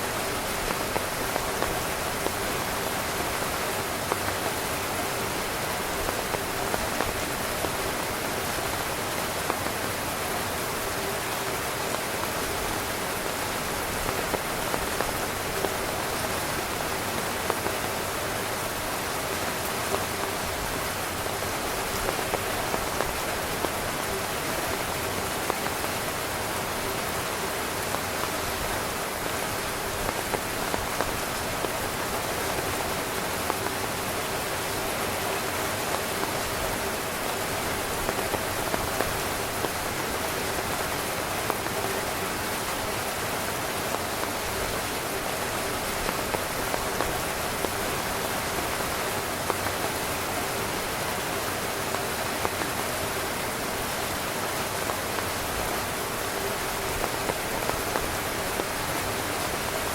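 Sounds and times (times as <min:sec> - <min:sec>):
raindrop taps: 0:00.0 - 0:50.2, 0:50.8 - 0:59.9
rain falling on a tent: 0:00.0 - 0:59.9.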